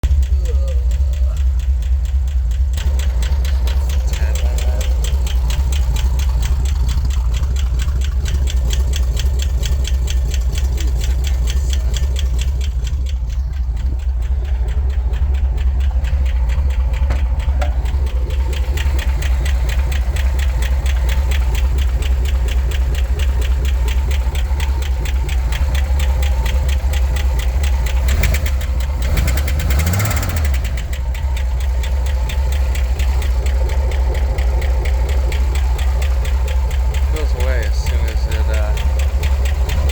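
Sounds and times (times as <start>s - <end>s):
car engine idling: 0.0s - 39.9s
engine lifter ticking: 0.0s - 39.9s.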